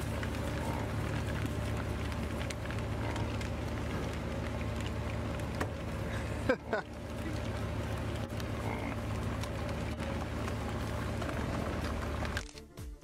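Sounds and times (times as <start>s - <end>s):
low motor rumble: 0.0s - 12.9s
hooves clicking on asphalt: 0.0s - 13.0s.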